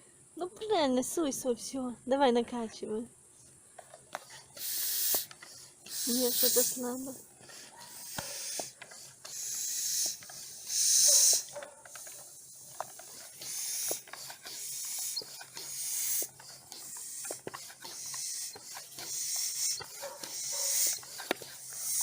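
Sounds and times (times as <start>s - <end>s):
hand air pump hissing: 3.8s - 22.0s.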